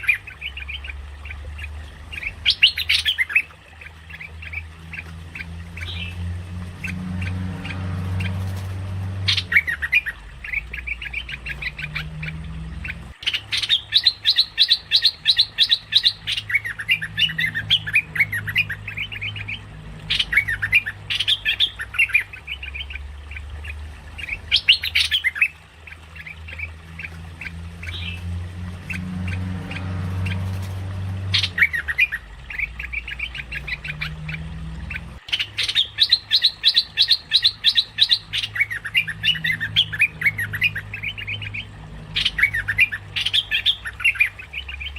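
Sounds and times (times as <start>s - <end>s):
bird chattering calls: 0.0s - 28.2s, 28.8s - 44.9s
steady low hum: 0.0s - 36.0s.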